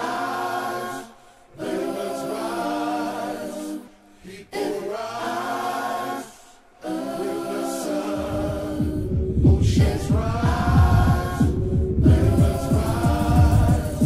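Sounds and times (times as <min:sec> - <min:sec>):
unaccompanied choir singing: 0:00.0 - 0:14.0.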